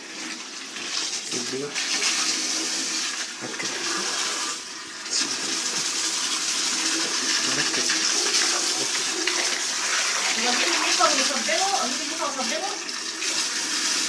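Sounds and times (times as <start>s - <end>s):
water rushing through coil: 1.2s - 14.0s.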